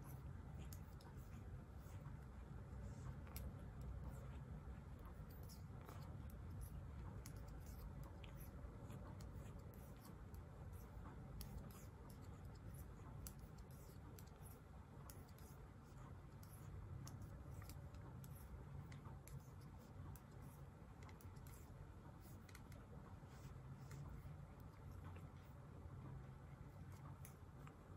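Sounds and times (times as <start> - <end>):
low room hum: 0.0 - 27.9.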